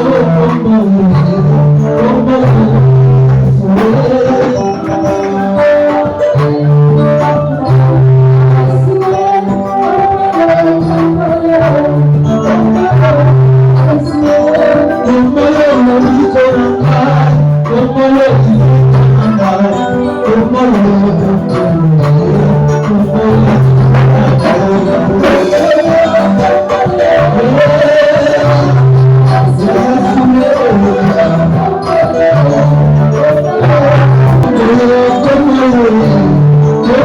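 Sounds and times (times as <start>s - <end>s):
worship band music: 0.0s - 37.0s.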